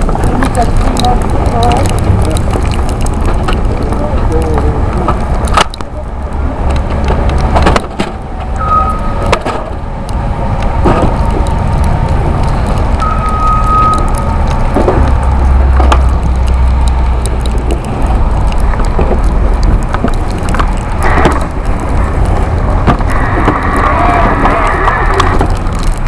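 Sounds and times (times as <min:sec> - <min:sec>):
knocks and rattles: 0:00.0 - 0:24.5
wind buffeting microphone: 0:00.0 - 0:26.0.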